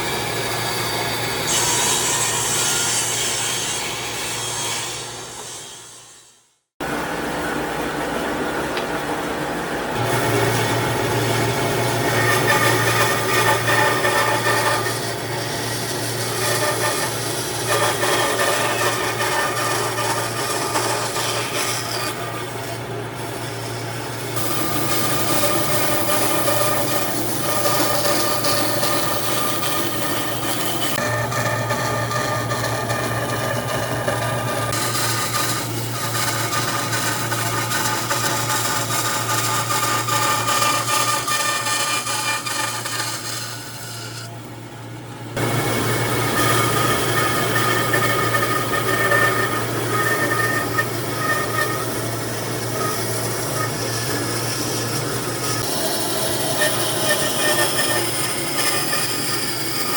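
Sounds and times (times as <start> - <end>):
power tool sanding wood: 10.0 - 44.2, 45.4 - 59.9.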